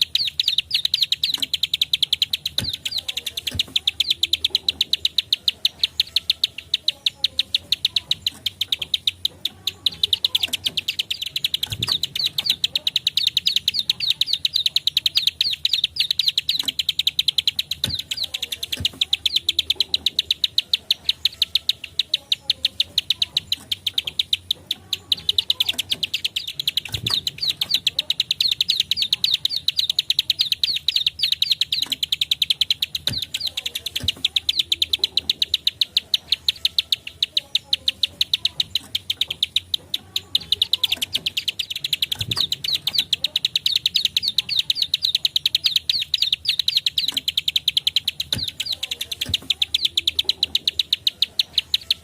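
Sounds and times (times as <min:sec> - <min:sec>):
bird calling sharp clicking notes: 0:00.0 - 0:52.0.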